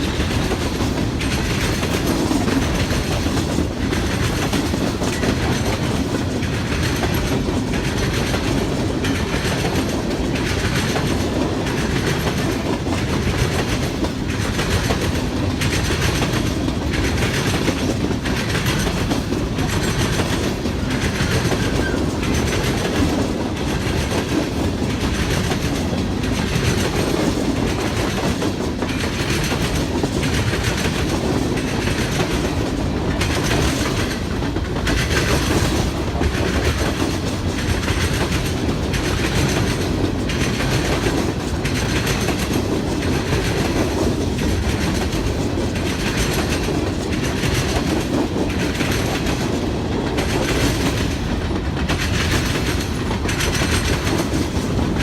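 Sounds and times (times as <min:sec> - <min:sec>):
freight train rumbling past: 0:00.0 - 0:55.0
train wheels clacking: 0:00.0 - 0:55.0.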